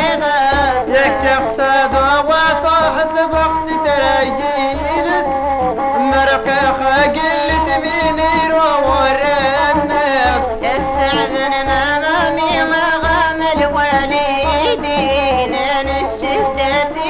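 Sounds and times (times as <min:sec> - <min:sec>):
folk song singing: 0:00.0 - 0:17.0
low drum beat: 0:00.0 - 0:17.0.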